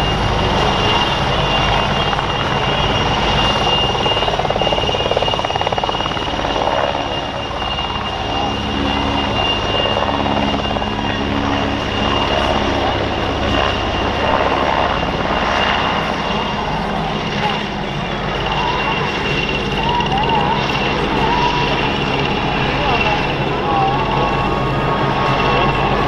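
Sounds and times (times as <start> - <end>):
helicopter rotor beating: 0.0 - 26.0
turbine whine: 0.0 - 26.0.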